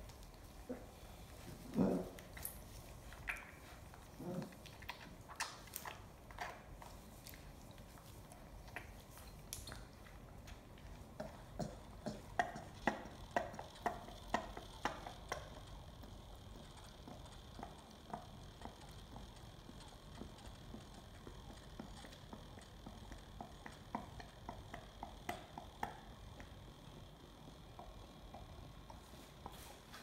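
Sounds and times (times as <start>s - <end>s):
lion cub sucking on bottle teat: 0.0s - 30.0s.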